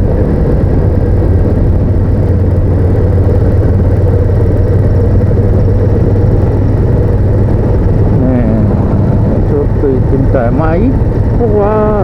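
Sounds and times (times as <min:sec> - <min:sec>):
motorcycle engine drone: 0:00.0 - 0:12.0
road and wind noise: 0:00.0 - 0:12.0.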